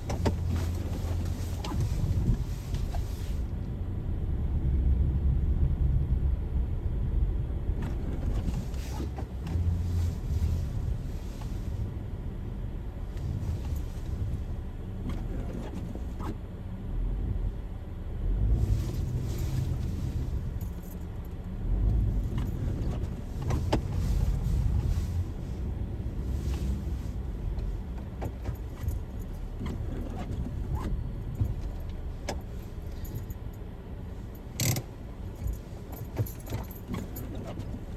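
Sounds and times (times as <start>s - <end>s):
car road and engine rumble: 0.0s - 37.9s.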